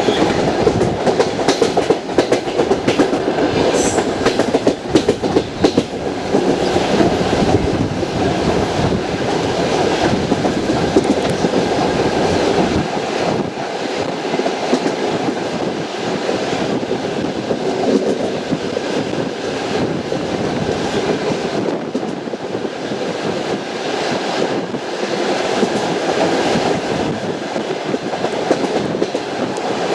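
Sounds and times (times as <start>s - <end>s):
train wheels clickety-clack: 0.0s - 29.9s.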